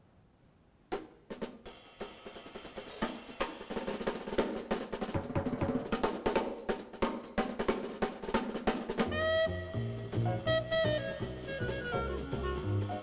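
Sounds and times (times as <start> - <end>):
drum kit solo: 1.0 - 13.0.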